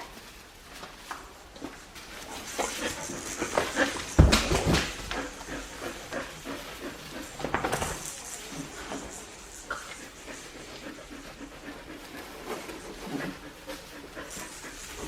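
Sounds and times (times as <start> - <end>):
puppies scuffling: 0.0 - 15.0.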